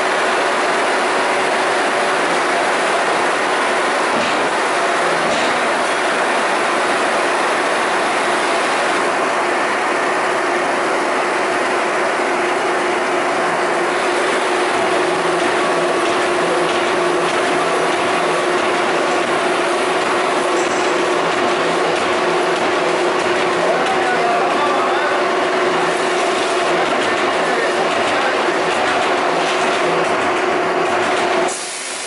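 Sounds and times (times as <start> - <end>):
steady machine hum: 0.0 - 32.0.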